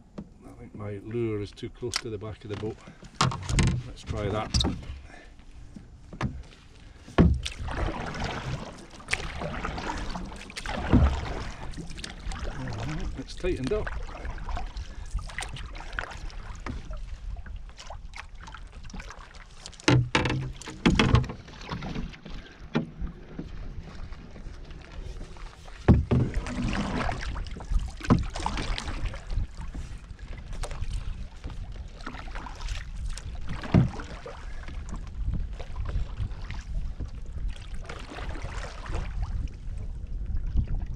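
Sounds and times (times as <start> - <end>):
paddle strokes in water: 1.8 - 40.9.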